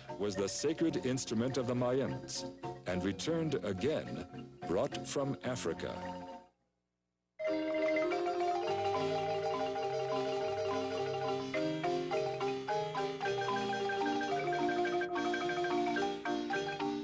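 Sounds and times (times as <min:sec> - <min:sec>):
marimba music: 0:00.0 - 0:06.4, 0:07.4 - 0:17.0.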